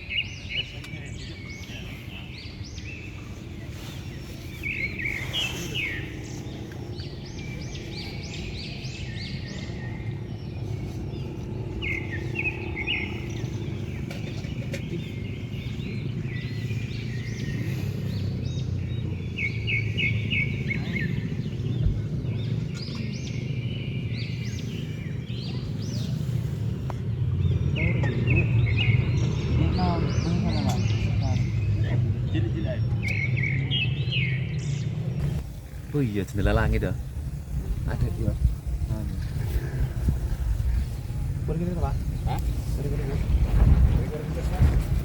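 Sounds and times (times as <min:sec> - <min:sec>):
small birds chirping: 0:00.0 - 0:45.0
steady low rumble: 0:00.0 - 0:45.0.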